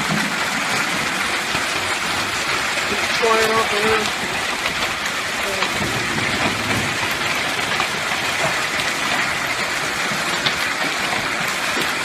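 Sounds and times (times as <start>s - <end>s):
hailstones clicking: 0.0s - 12.0s
heavy rain and hail: 0.0s - 12.0s.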